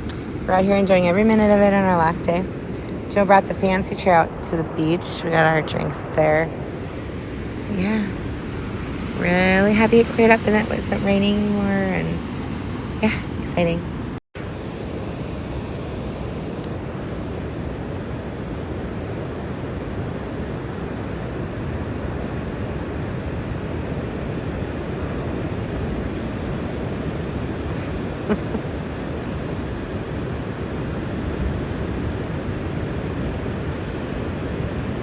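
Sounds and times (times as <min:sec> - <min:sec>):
ocean surf on a beach: 0:00.0 - 0:35.0
wind on the microphone: 0:00.0 - 0:35.0.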